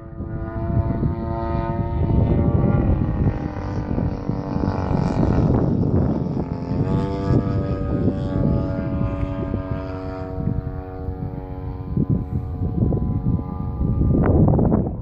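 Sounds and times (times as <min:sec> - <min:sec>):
low rumbling noise: 0:00.0 - 0:15.0
model airplane engine whine: 0:00.0 - 0:15.0.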